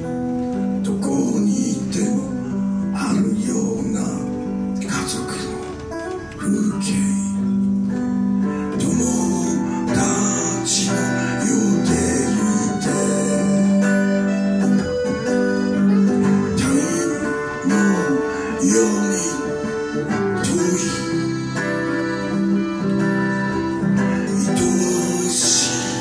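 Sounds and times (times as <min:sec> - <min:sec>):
acoustic guitars strumming chords: 0:00.0 - 0:26.0
person singing: 0:00.8 - 0:05.8, 0:08.5 - 0:26.0.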